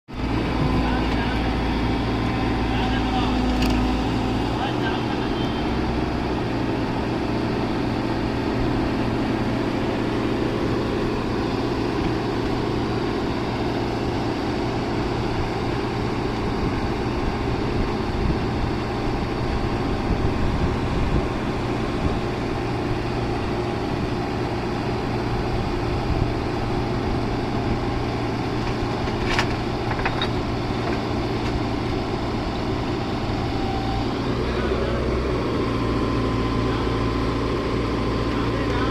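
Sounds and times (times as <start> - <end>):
excavator diesel engine running: 0.1 - 38.9.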